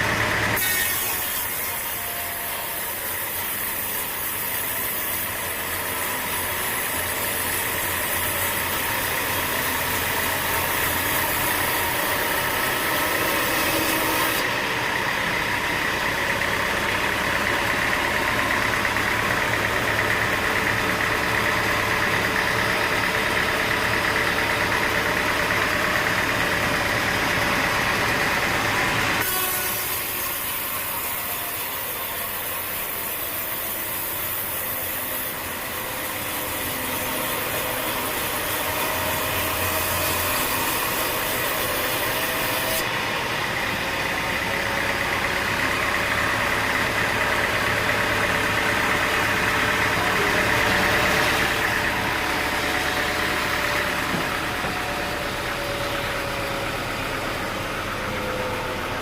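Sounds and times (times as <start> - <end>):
sawmill motor whining: 0.0 - 59.0.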